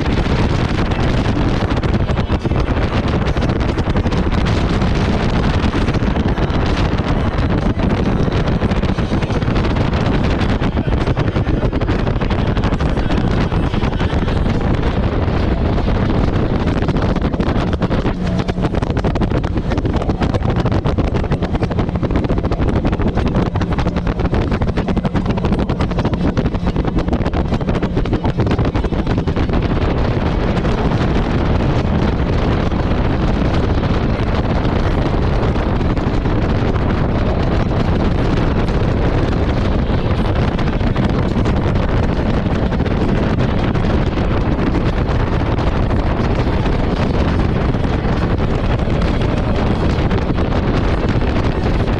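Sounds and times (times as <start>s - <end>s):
jet ski engine: 0.0s - 51.9s
wind buffeting microphone: 0.0s - 51.9s.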